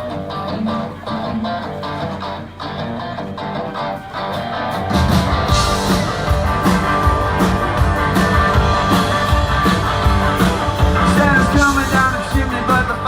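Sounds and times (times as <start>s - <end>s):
live rock and roll band: 0.0s - 13.0s.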